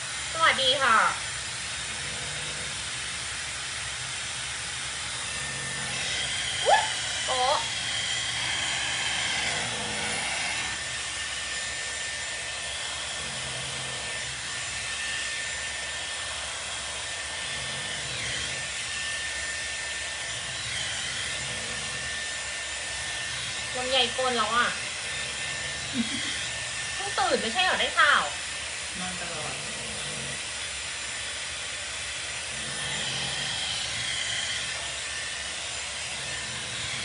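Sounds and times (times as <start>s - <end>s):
hot-air hair styler running: 0.0s - 37.0s.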